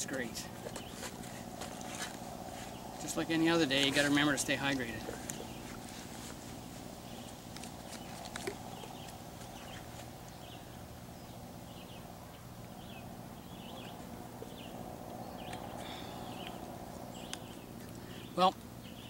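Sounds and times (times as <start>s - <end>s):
birds chirping: 0.0s - 19.0s
low background hum: 0.0s - 19.0s.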